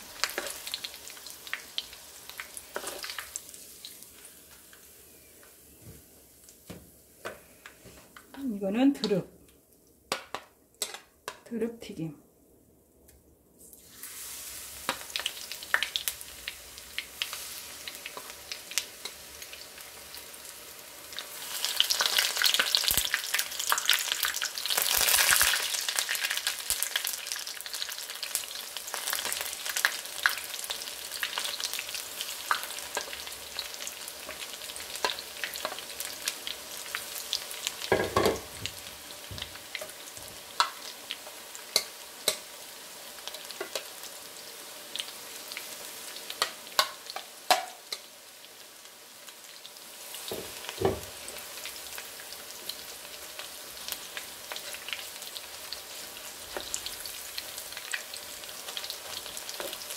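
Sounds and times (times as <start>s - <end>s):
food deep-frying in oil: 0.0s - 5.7s, 13.6s - 59.9s.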